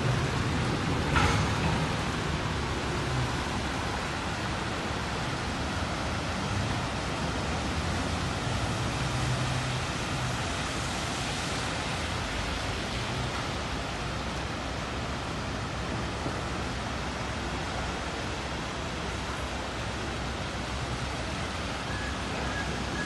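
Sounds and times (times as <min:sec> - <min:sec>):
cars driving through water: 0:00.0 - 0:23.0
rain hiss: 0:00.0 - 0:23.0.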